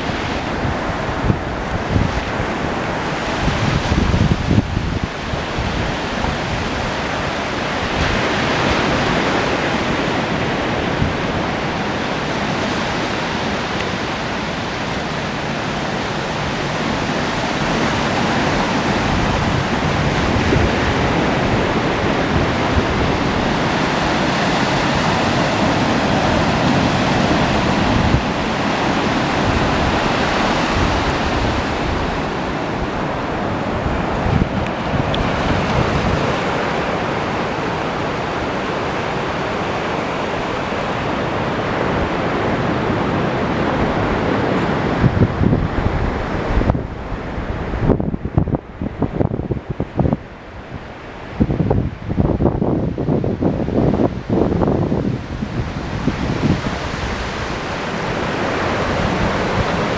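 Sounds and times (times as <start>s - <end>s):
waves breaking on beach: 0.0s - 59.9s
wind buffeting microphone: 0.0s - 59.9s.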